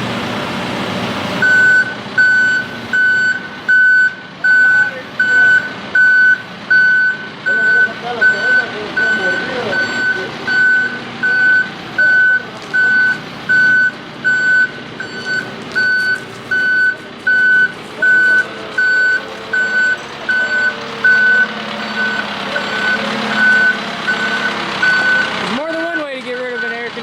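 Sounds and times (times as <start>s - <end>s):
backhoe engine running: 0.0s - 27.0s
reverse alarm beeping: 1.4s - 26.9s.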